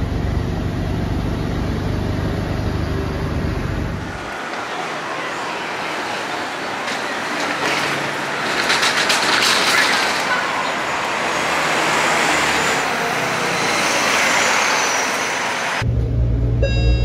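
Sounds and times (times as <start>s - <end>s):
bus driving past: 0.0s - 16.9s
street traffic: 0.0s - 17.0s.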